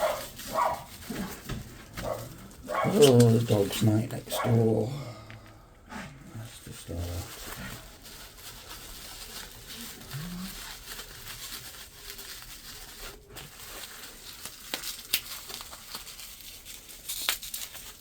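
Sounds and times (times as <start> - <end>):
plastic bags crinkling: 0.0 - 5.6, 6.4 - 18.0.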